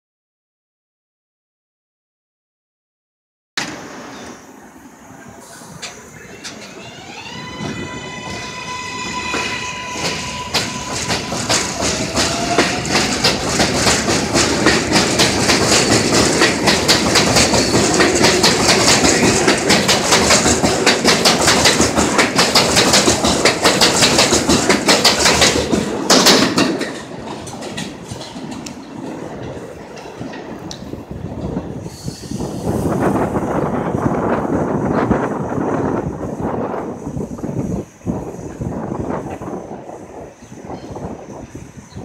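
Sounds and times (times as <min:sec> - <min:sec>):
train whine: 0:03.6 - 0:42.0
train wheels clattering on rails: 0:05.7 - 0:42.0.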